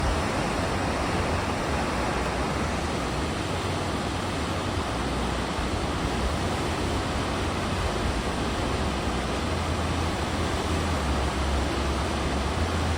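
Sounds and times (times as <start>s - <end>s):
sea water rushing past ship: 0.0s - 12.9s.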